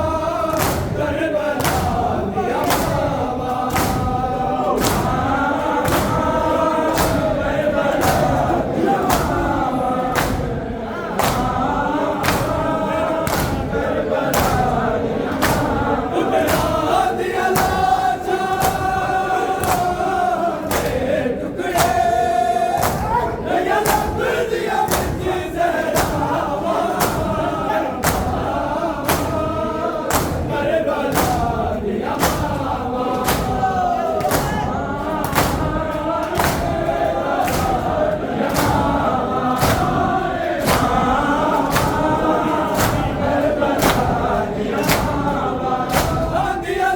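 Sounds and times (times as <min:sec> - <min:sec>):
crowd chanting in unison: 0:00.0 - 0:46.9
rhythmic chest-beating thumps: 0:00.0 - 0:46.9.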